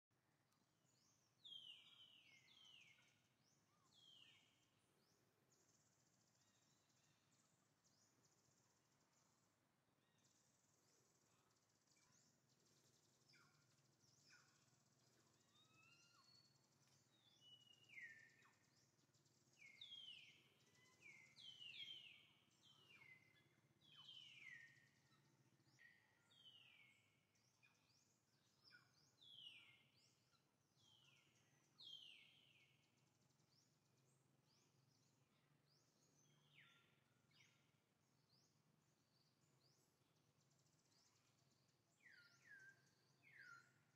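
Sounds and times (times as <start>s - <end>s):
faint outdoor ambience: 0.1s - 43.9s.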